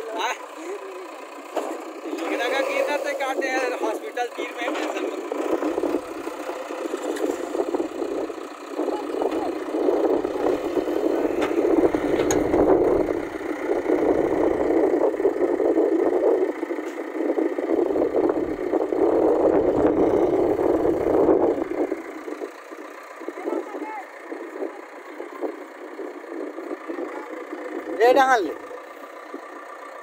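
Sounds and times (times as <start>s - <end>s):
vehicle engine revving: 0.0s - 30.0s.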